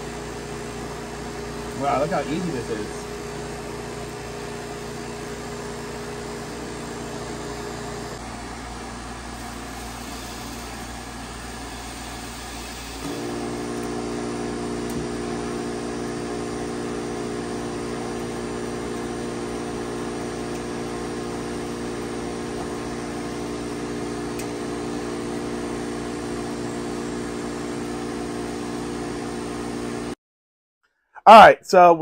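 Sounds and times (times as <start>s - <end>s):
cotton candy machine humming: 0.0s - 30.2s.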